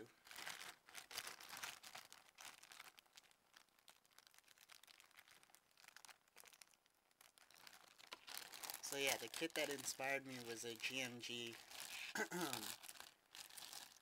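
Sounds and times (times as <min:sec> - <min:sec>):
rustling of plastic packaging: 0:00.0 - 0:14.0.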